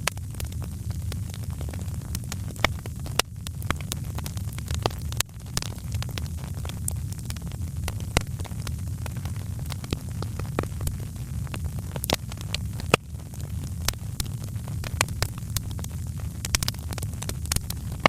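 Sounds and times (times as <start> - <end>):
low rumble of burning fire: 0.0 - 18.0
wood fire crackling: 0.0 - 18.0.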